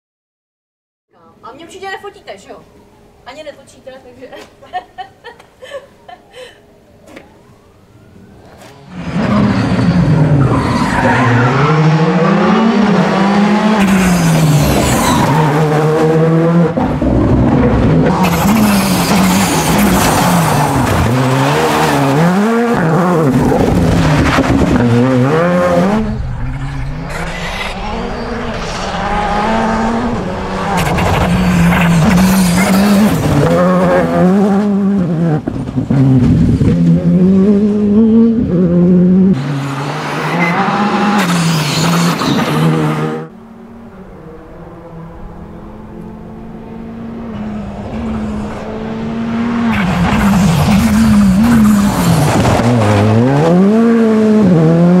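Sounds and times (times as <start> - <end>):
cars passing: 1.2 - 55.0
rally car engines revving: 8.3 - 55.0.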